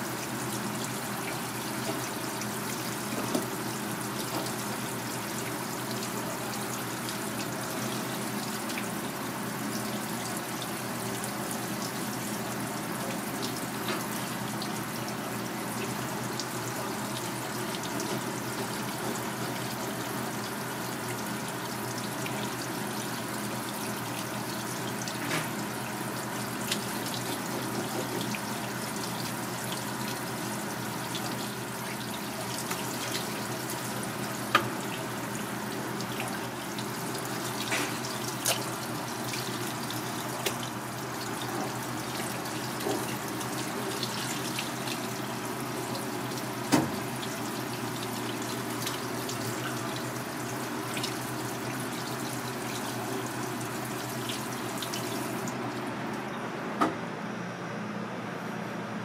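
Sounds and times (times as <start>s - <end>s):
tap water spraying: 0.4s - 55.9s.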